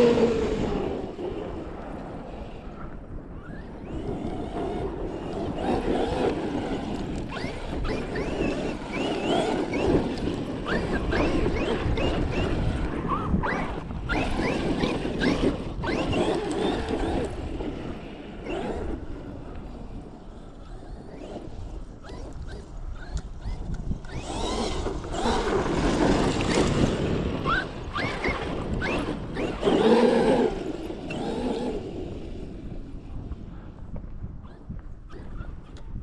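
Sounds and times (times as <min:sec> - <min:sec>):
electric motor whining: 0:00.0 - 0:01.2, 0:03.4 - 0:32.9
tires rumbling on dirt: 0:00.0 - 0:35.8.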